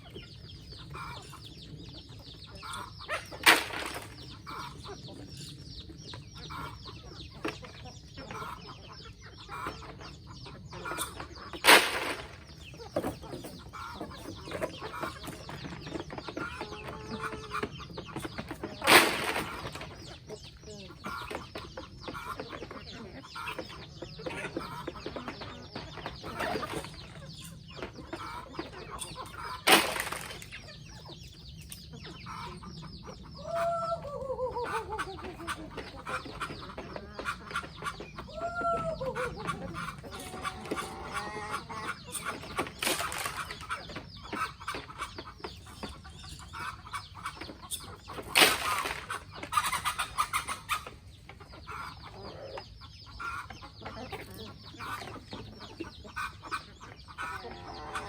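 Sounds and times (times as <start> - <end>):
drawn-out falling chicken calls: 0.0 - 5.5, 6.1 - 58.0
chickens clucking: 0.0 - 58.0.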